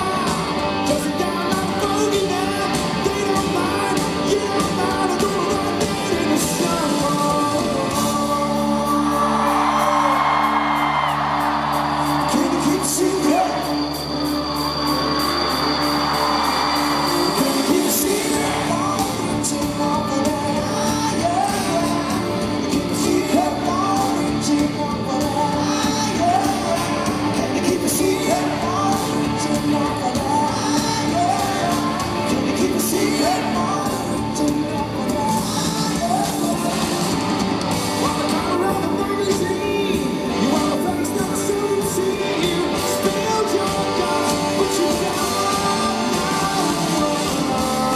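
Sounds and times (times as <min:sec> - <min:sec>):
lead singer singing: 0:00.0 - 0:14.2, 0:16.9 - 0:47.9
live rock band: 0:00.0 - 0:47.9.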